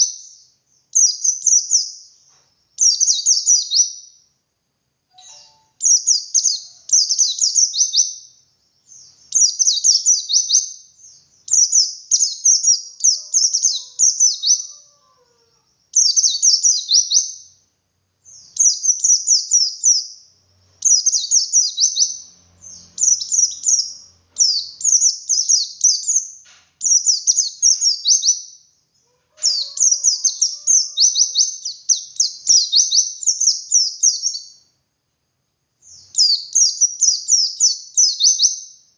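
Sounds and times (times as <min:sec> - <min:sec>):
bird twittering song: 0:00.0 - 0:04.3, 0:05.1 - 0:34.8, 0:35.8 - 0:38.9.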